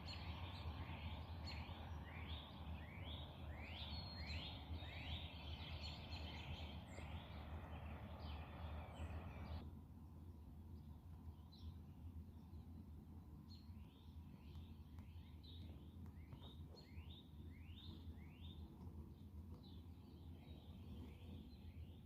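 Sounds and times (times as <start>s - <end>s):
birds chirping: 0.0s - 9.6s, 13.5s - 22.0s
low steady rumble: 0.0s - 22.0s.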